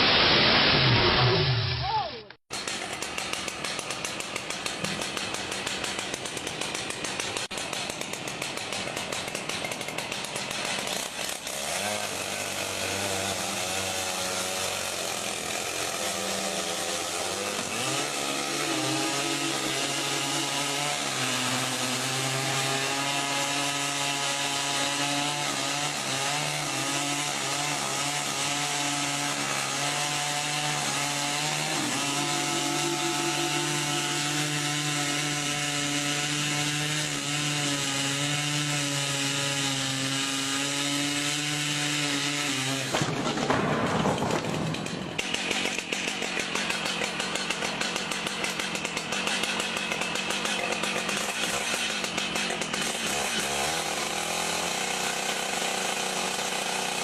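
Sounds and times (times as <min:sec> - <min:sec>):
chainsaw cutting wood: 0:00.0 - 0:01.8, 0:02.4 - 0:57.0.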